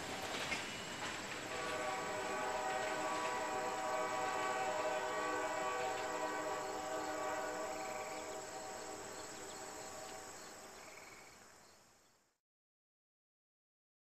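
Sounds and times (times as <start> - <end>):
distant locomotive air horn: 0.0 - 11.4.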